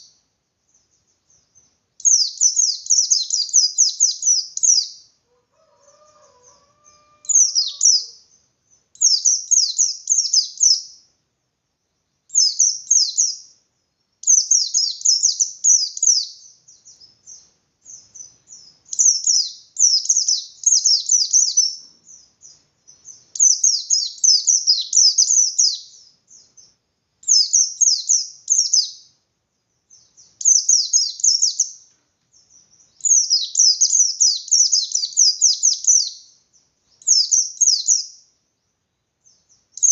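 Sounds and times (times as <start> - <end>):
bird rapid high chirps: 0.0 - 11.1, 12.3 - 29.2, 29.8 - 38.4, 39.2 - 39.9.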